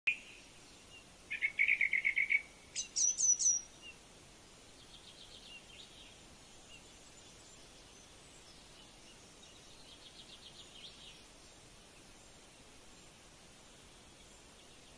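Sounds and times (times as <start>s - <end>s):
faint steady hiss: 0.1s - 14.9s
small birds calling: 0.1s - 14.9s.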